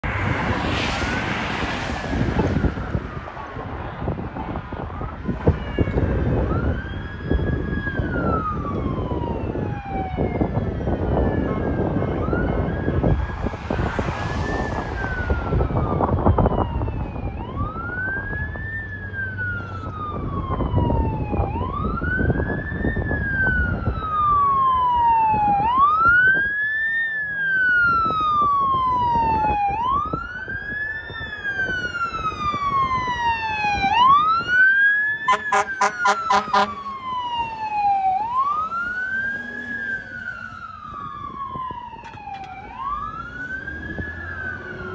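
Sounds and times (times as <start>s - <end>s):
fire engine wail siren: 0.0s - 44.9s
road traffic passing: 0.0s - 44.9s.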